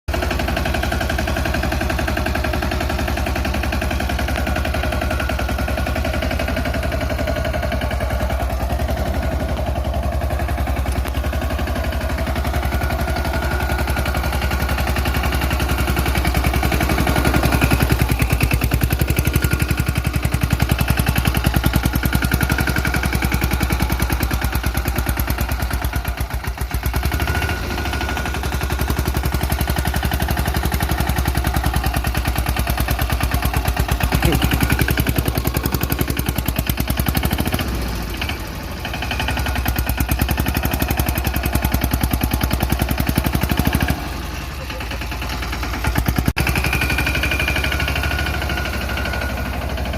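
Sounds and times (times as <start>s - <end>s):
small tractor engine running: 0.1s - 49.9s.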